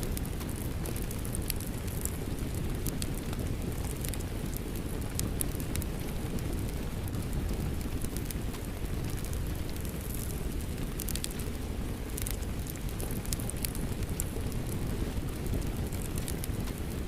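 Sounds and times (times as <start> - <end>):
rain: 0.0 - 17.0
wood fire crackling: 0.0 - 17.0.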